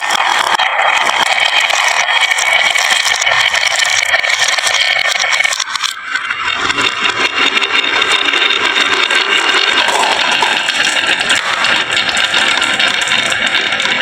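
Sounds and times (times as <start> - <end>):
marbles clattering down wooden run: 0.0 - 14.0.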